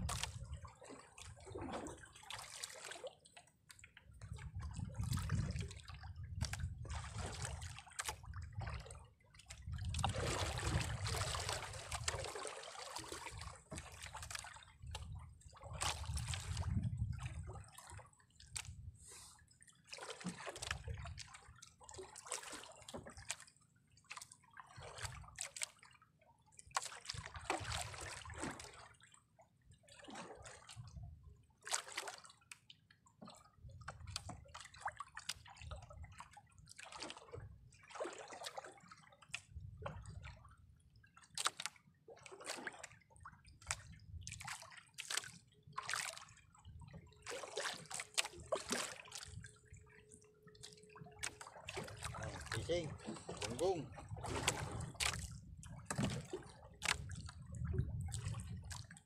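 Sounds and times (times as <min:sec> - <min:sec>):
waves slapping against boat hull: 0:00.0 - 0:25.8, 0:26.6 - 0:29.1, 0:30.0 - 0:59.0.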